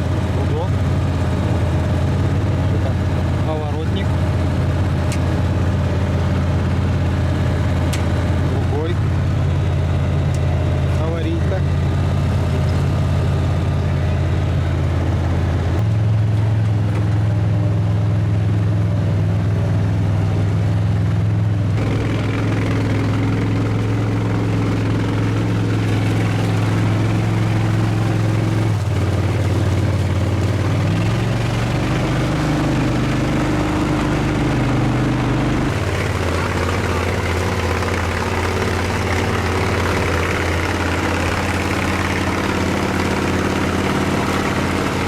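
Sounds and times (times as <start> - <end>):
all-terrain vehicle engine running: 0.0 - 45.0.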